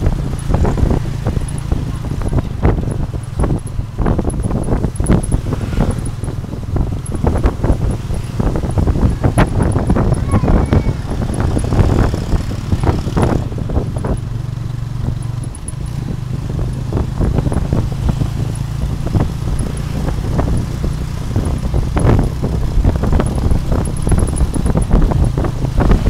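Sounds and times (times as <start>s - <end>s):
small motorcycle engine humming: 0.0s - 26.0s
wind buffeting on microphone: 0.0s - 26.0s.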